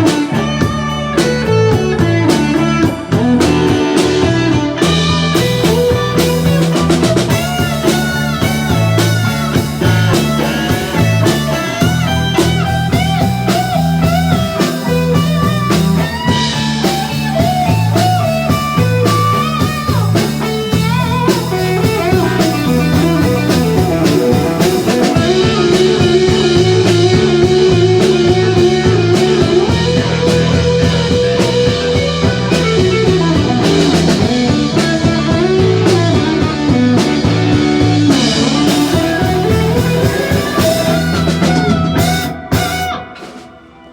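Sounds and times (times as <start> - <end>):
bass: 0.0 - 43.9
blues-rock lead guitar: 0.0 - 43.9
drum kit: 0.0 - 43.9.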